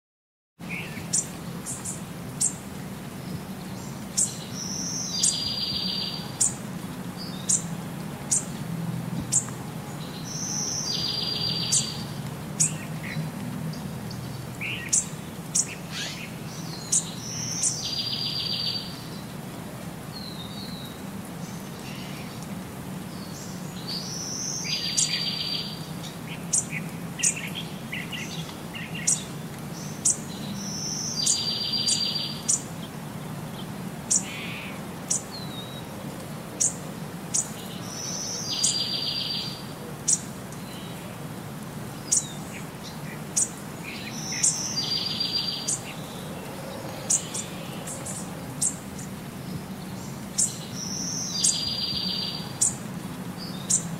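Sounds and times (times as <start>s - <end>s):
birds chirping: 0.6s - 6.6s, 7.2s - 8.6s, 9.2s - 19.4s, 23.1s - 35.9s, 36.5s - 41.2s, 41.9s - 53.9s.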